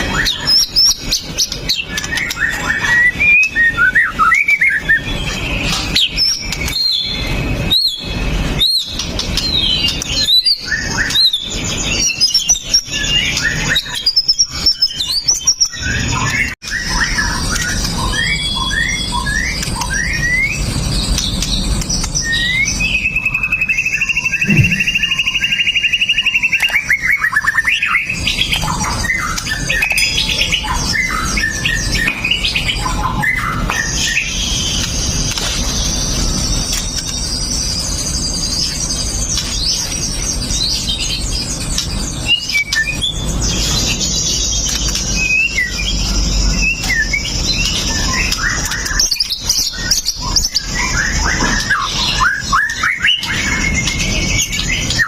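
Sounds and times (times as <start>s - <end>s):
bird singing whistles and rattles: 0.0s - 55.0s.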